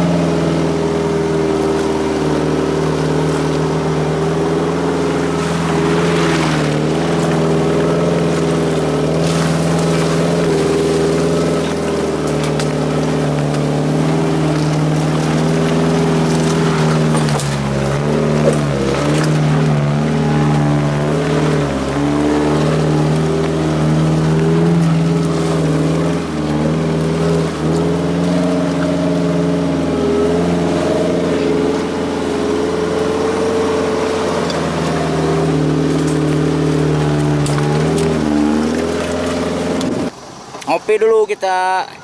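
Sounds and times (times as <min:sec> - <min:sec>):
car engine running at low revs: 0:00.0 - 0:42.0.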